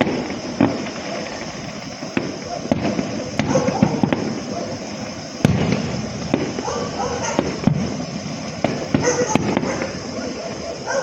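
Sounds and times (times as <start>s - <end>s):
constant hiss: 0.0s - 11.0s
fireworks bangs: 0.0s - 11.0s.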